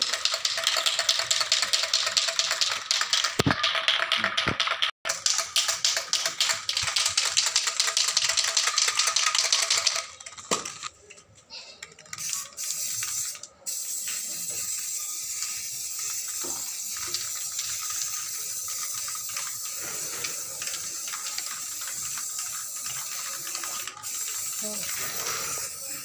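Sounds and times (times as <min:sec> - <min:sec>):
spray paint can hissing: 0:00.0 - 0:10.9, 0:12.1 - 0:26.0.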